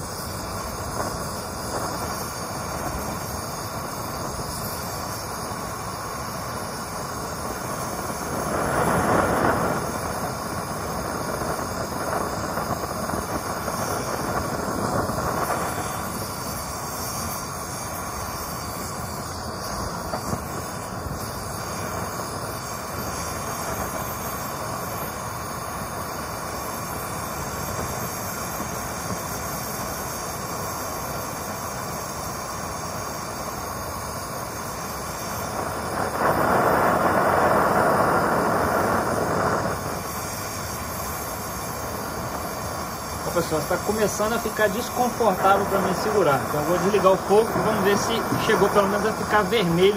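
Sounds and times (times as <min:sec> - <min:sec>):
gas torch flame hissing: 0:00.0 - 0:49.9.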